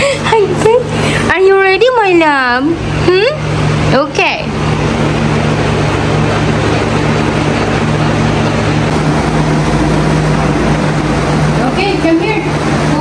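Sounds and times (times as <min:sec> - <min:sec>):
loud steady rushing noise: 0:00.0 - 0:13.0
low hum: 0:00.0 - 0:13.0.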